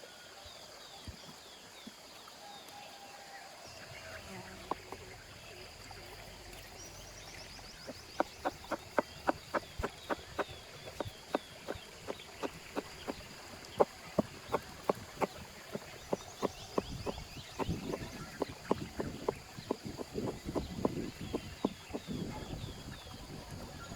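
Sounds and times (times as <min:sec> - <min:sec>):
faint birdsong: 0:00.0 - 0:23.9.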